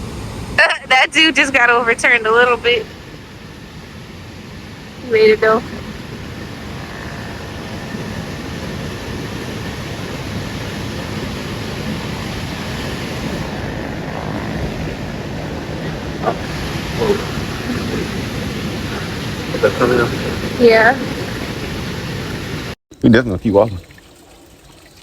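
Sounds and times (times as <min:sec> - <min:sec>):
river rapids roaring: 0:00.0 - 0:22.8.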